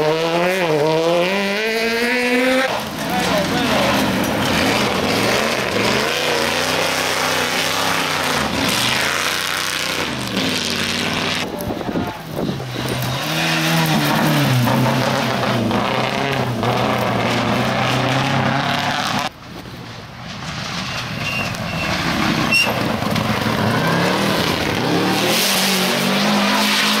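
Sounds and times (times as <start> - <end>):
second car engine revving: 0.0 - 19.3, 21.5 - 27.0
rally car engine at full throttle: 0.0 - 27.0
gravel and tyres hissing: 2.1 - 27.0.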